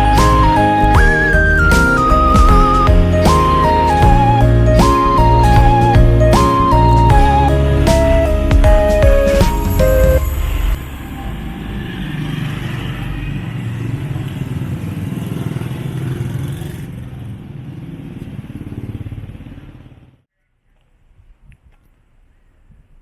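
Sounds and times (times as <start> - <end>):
motorbikes running: 0.0 - 20.2
street traffic rumble: 0.0 - 20.2.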